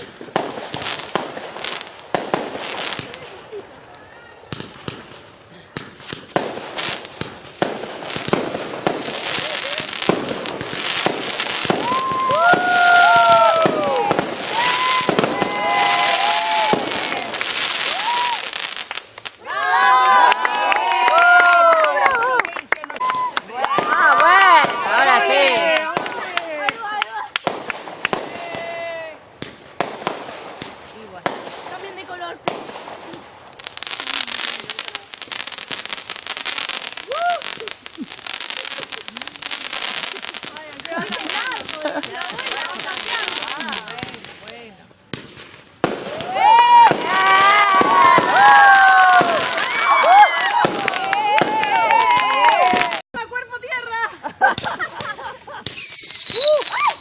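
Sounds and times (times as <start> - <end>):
fireworks whistling: 0.0 - 3.6, 4.4 - 19.4, 27.4 - 53.0, 54.5 - 57.0
fireworks popping and crackling: 0.0 - 19.5, 20.2 - 53.8, 54.4 - 57.0.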